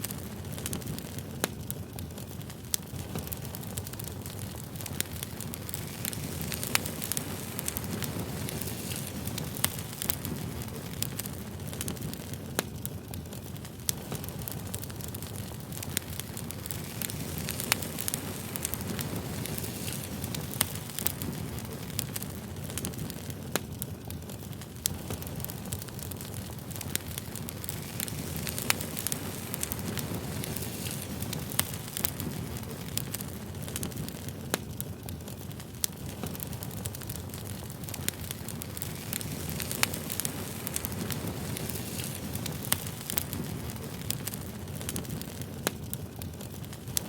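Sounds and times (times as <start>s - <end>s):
campfire crackling: 0.0s - 47.0s.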